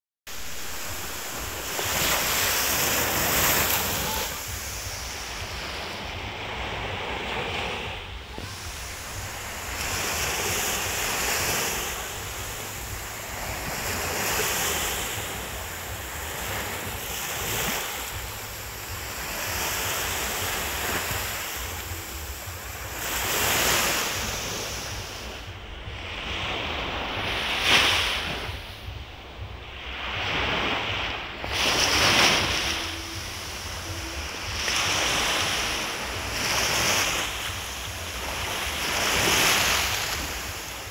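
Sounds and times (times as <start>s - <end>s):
ocean waves on sandy beach: 0.3s - 40.9s.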